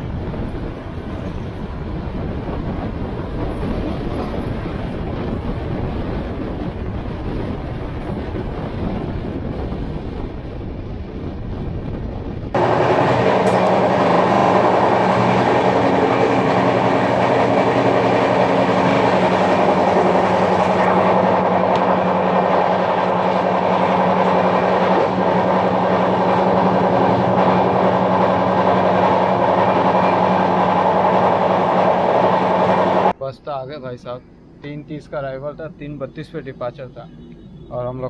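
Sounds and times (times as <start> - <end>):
train wheels rumbling on track: 0.0 - 33.2.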